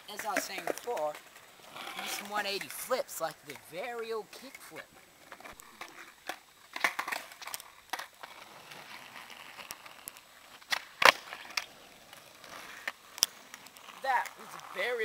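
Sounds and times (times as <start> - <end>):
skateboard clacking on asphalt: 0.0 - 15.0.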